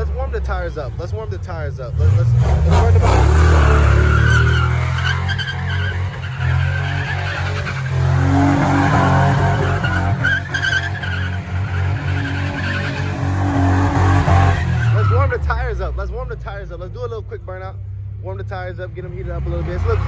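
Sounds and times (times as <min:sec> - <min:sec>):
car engine at high revs: 0:00.0 - 0:16.8
tires squealing: 0:00.0 - 0:17.2, 0:19.0 - 0:20.0.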